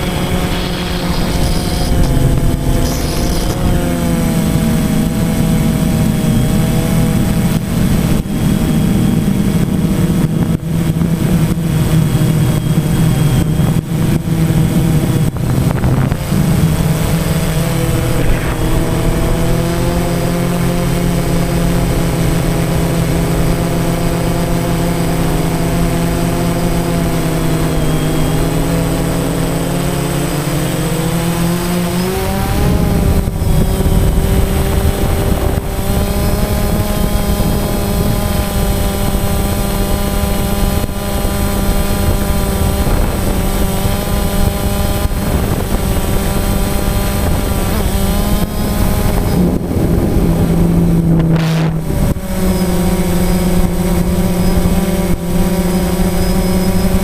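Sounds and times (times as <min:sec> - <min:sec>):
drone propellers humming: 0:00.0 - 0:57.0.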